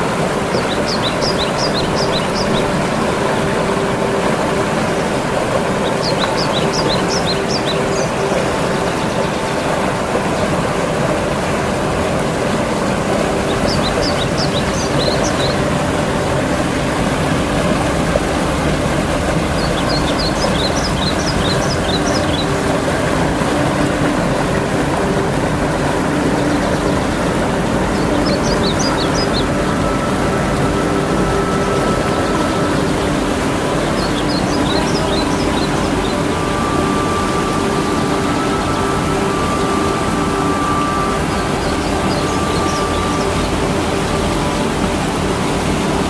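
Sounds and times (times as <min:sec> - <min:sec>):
bird chirping song: 0:00.0 - 0:45.8
river water rushing: 0:00.0 - 0:46.0.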